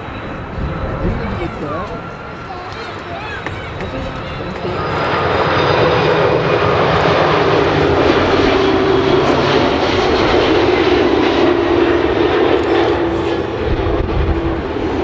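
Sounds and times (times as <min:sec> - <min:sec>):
jet engines passing: 0:00.0 - 0:15.0.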